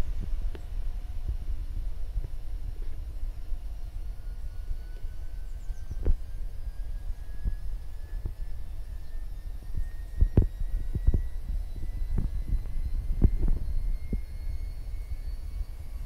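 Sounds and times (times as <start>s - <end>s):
low rumble on microphone: 0.0s - 16.0s.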